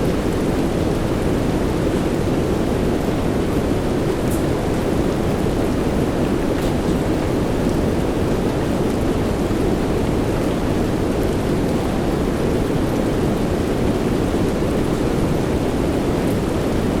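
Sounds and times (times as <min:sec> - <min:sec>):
soft rain hiss: 0:00.0 - 0:17.0.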